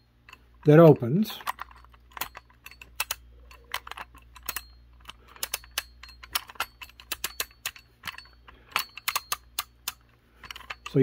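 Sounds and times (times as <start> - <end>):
safe lock mechanism clicking: 0.3 - 11.0.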